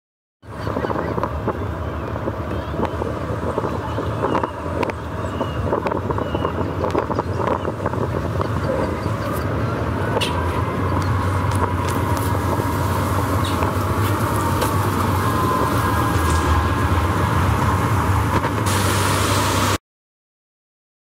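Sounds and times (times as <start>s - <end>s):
boat engine rumbling: 0.4s - 19.8s
steady whine: 0.5s - 19.8s.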